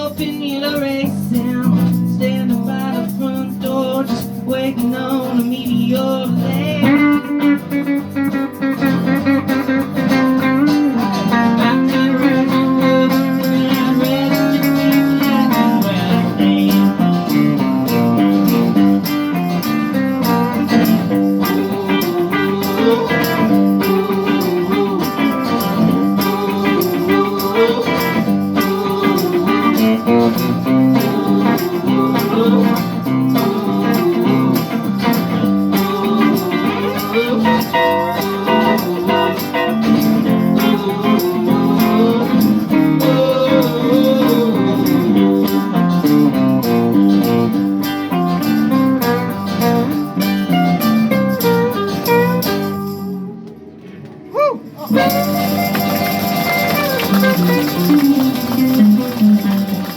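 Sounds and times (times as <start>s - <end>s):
lead guitar with bending notes: 0.0s - 59.9s
live band playing: 0.0s - 59.9s.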